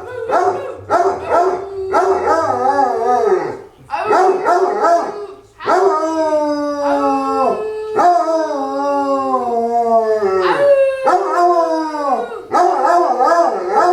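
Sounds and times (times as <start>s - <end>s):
dogs howling: 0.0s - 13.9s.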